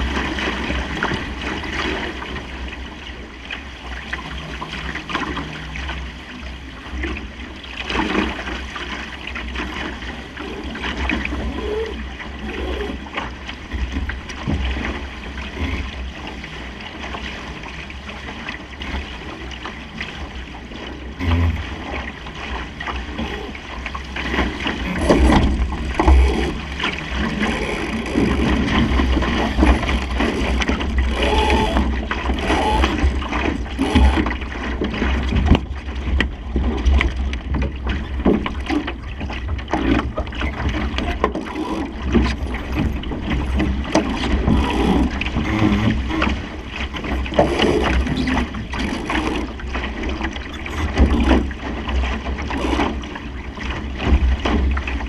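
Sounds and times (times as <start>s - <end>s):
water splashing along hull: 0.0s - 55.0s.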